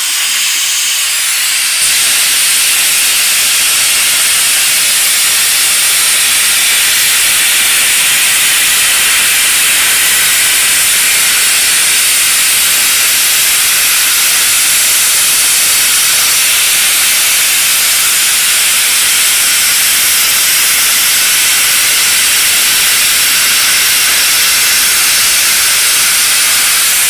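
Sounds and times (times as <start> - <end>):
plasma torch hissing: 0.0 - 27.0.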